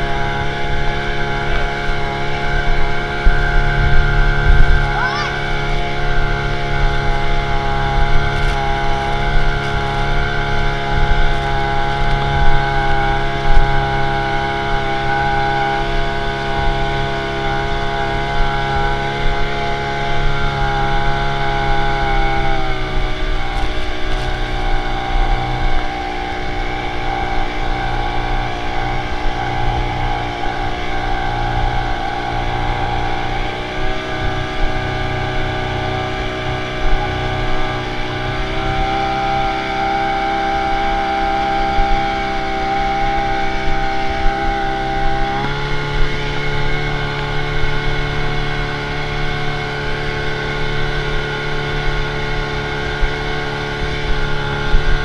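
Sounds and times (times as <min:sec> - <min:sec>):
boat engine running: 0:00.0 - 0:55.0
wind and water rushing: 0:00.0 - 0:55.0.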